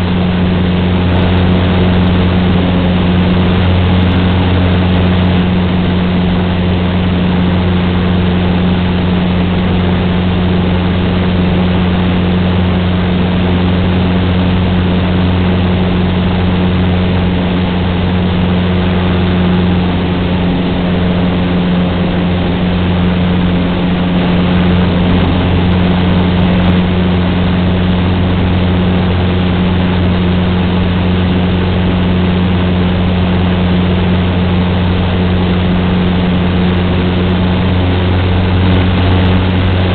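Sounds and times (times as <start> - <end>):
small plane engine and propeller: 0.0 - 39.9.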